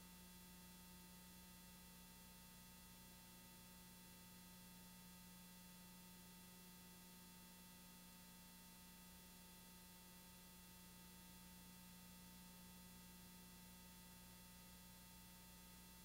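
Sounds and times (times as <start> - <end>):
faint steady hum and hiss: 0.0 - 16.0.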